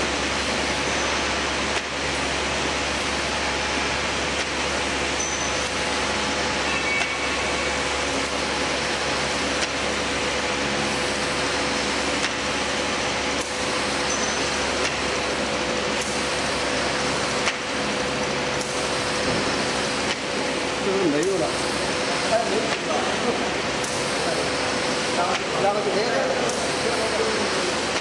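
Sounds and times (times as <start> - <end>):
laminating machine humming: 0.0 - 28.0.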